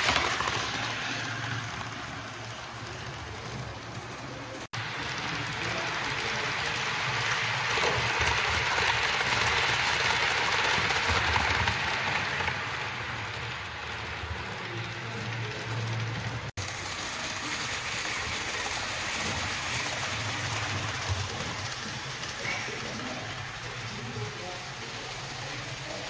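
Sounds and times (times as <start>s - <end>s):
model train wheels hissing on track: 0.0s - 26.0s.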